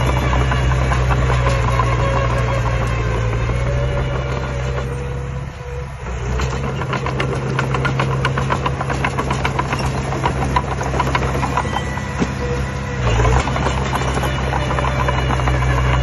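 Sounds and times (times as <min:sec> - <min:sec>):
bulldozer diesel engine running: 0:00.0 - 0:16.0
continuous clicking clatter: 0:00.0 - 0:16.0.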